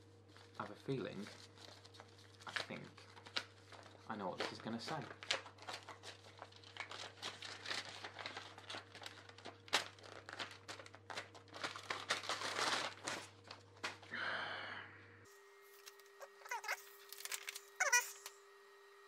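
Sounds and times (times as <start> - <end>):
paper rustling and crinkling: 0.0 - 14.1, 15.6 - 18.3.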